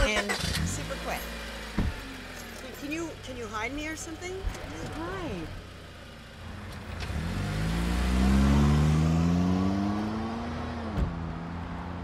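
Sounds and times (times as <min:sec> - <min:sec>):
suv engine revving: 0:00.0 - 0:12.0.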